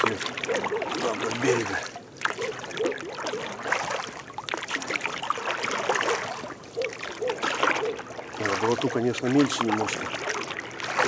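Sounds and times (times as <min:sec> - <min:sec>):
water lapping at hull: 0:00.0 - 0:11.0
water trickling and splashing: 0:00.0 - 0:11.0.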